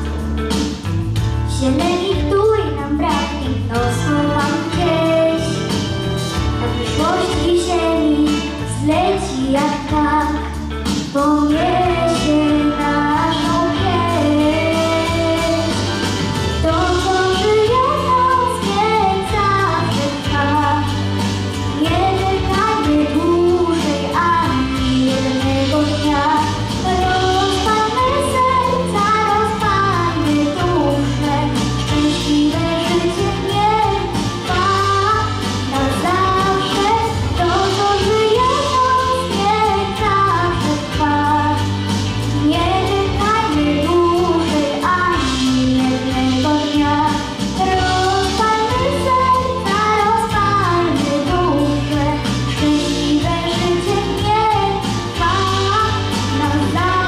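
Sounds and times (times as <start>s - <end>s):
instrumental accompaniment with bass: 0.0s - 57.0s
girl singing into microphone: 1.5s - 57.0s.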